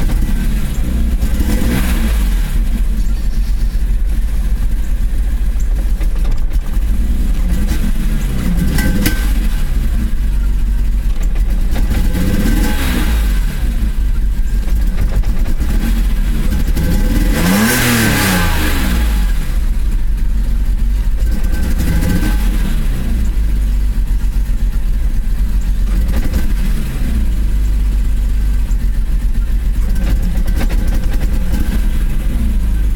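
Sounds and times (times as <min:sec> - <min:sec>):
car engine idling and revving: 0:00.0 - 0:32.9
engine misfiring: 0:00.0 - 0:32.9.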